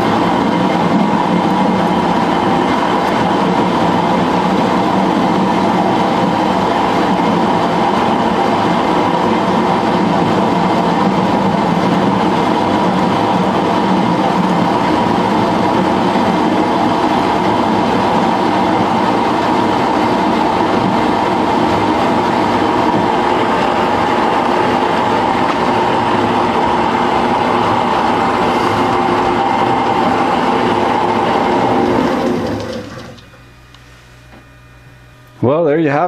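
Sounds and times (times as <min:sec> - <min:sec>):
metal lathe mechanical whine: 0:00.0 - 0:36.0.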